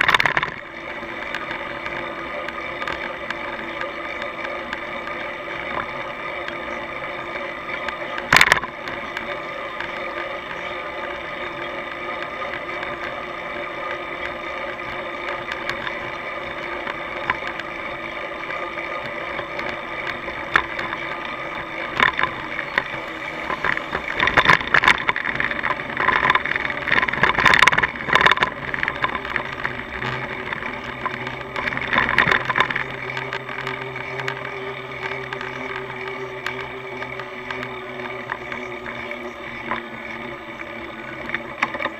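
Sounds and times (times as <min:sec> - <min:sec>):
rattling and crackle: 0:00.0 - 0:41.9
road and wind noise: 0:00.0 - 0:41.9.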